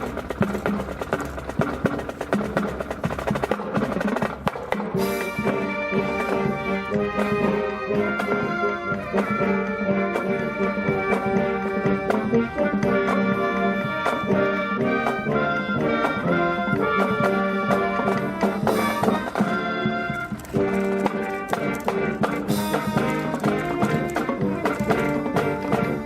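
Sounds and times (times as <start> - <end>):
steady drum beats: 0.0 - 26.0
trumpets and trombones melody: 4.9 - 26.0.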